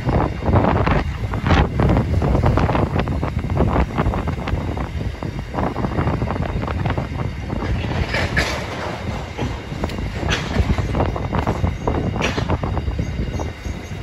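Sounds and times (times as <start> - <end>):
freight train wagons rumbling: 0.0 - 14.0
wheels clacking on track: 0.0 - 14.0.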